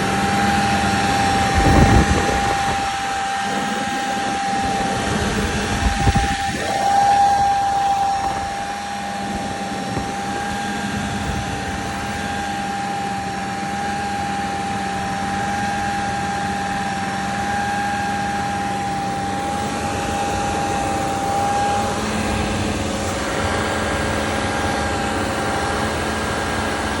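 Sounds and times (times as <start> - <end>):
high-pitched whine: 0.0 - 27.0.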